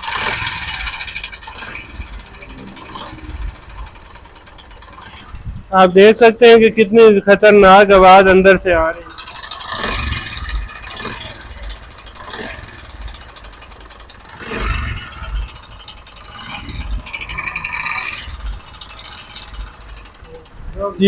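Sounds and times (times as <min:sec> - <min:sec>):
motorcycle engine rattling: 0:00.0 - 0:21.0.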